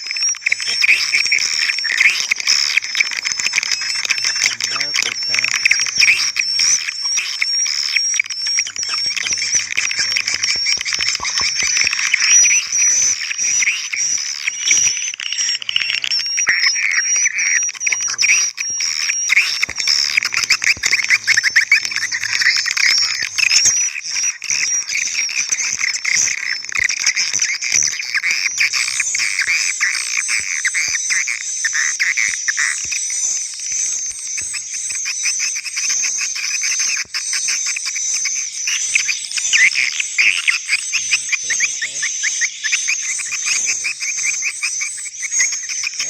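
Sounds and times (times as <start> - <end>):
swiftlets twittering: 0.0 - 46.0.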